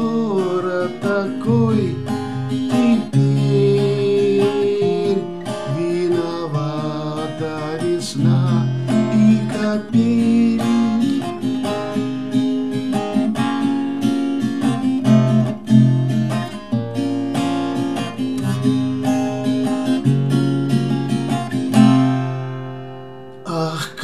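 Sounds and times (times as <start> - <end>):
acoustic guitar picked and strummed: 0.0 - 24.0.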